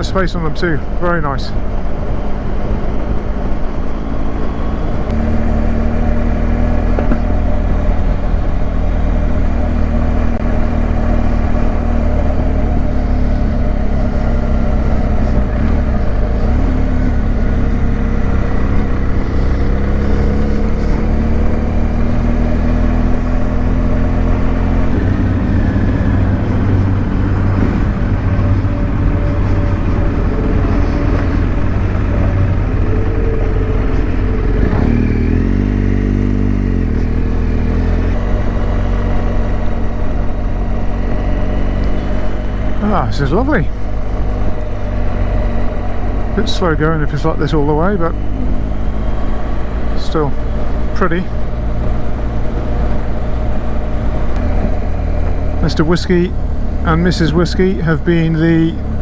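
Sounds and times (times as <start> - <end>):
motorcycle engine running: 1.6 - 59.0.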